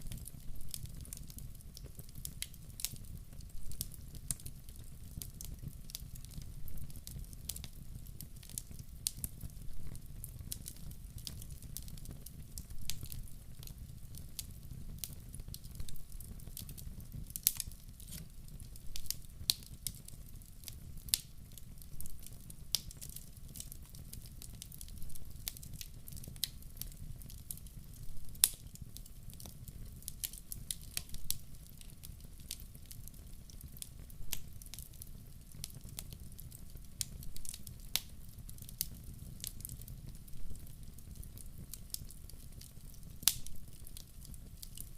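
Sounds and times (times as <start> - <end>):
low fire rumble: 0.0 - 44.9
wood stove fire crackling: 0.0 - 44.9.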